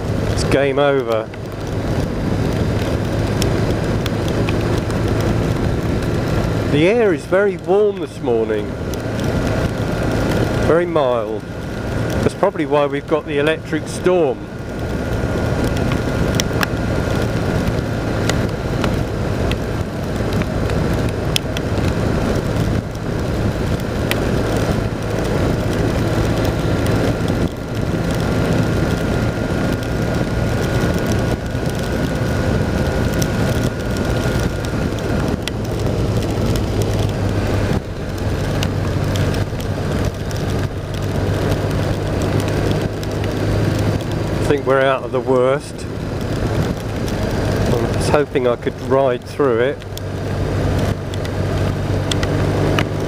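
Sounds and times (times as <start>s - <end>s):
motorcycle engine running: 0.0s - 53.0s
raindrops ticking: 0.0s - 53.0s
rush of wind and rain: 0.0s - 53.0s.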